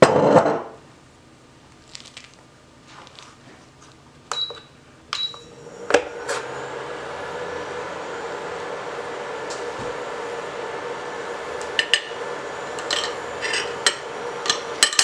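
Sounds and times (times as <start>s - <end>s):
electrical hum from hob: 0.0s - 15.0s.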